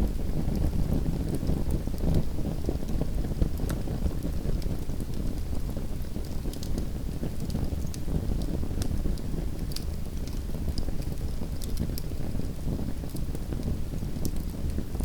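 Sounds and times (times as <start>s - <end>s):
fire burning rumble: 0.0s - 15.0s
fire crackles and pops: 0.0s - 15.0s.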